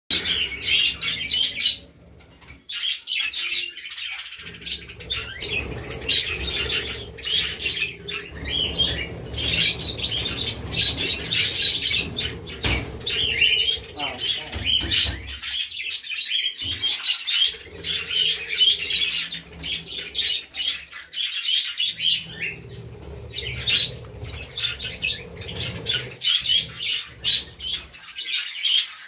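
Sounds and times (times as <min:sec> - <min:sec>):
budgerigars chattering: 0:00.1 - 0:29.0.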